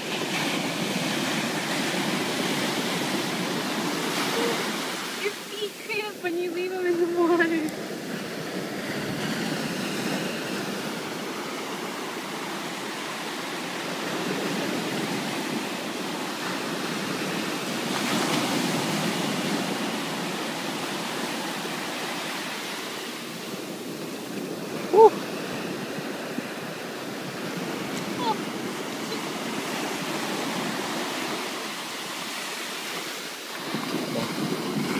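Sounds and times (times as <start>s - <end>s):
small waves breaking on a beach: 0.0s - 34.9s.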